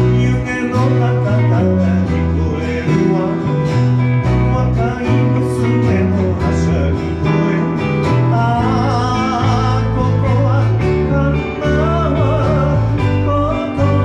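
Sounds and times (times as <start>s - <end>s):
acoustic guitar: 0.0s - 14.0s
electric bass line: 0.0s - 14.0s
piano: 0.0s - 14.0s.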